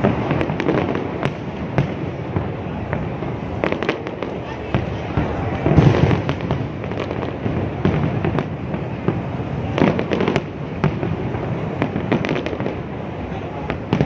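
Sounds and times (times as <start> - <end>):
fireworks crackling reports: 0.0 - 14.0
fireworks rumbling bangs: 0.0 - 14.0.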